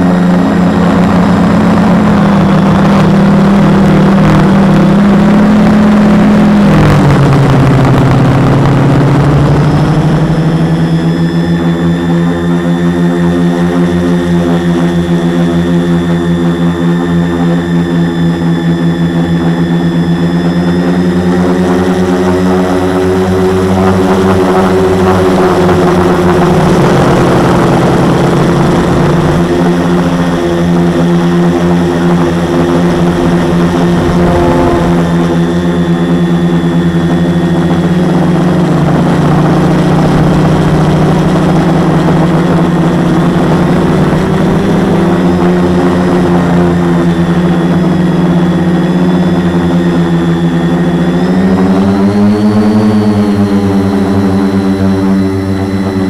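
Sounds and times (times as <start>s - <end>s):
quadcopter motors and propellers: 0.0s - 56.0s.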